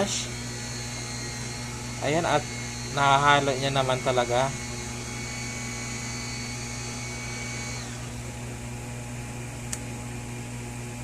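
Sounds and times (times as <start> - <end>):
washing machine motor running: 0.0 - 11.0.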